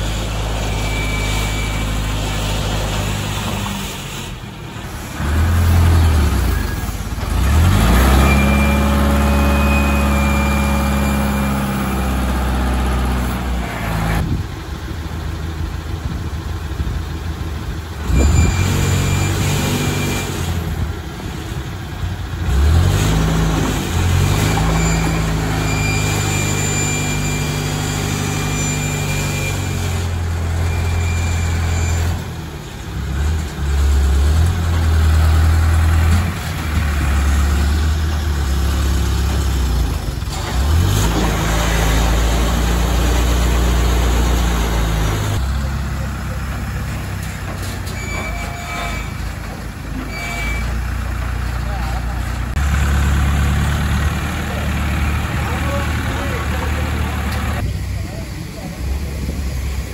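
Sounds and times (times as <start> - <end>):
diesel crane engine revving: 0.0 - 59.9.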